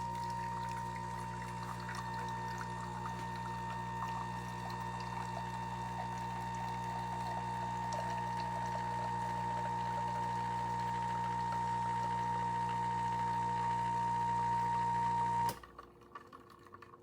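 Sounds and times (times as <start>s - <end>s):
liquid pouring: 0.0s - 13.6s, 15.6s - 17.0s
espresso machine humming: 0.0s - 15.6s.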